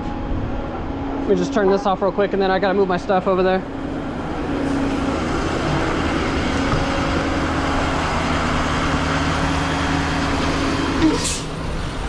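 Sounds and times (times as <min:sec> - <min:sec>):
vehicle engine droning hum: 0:00.0 - 0:12.0.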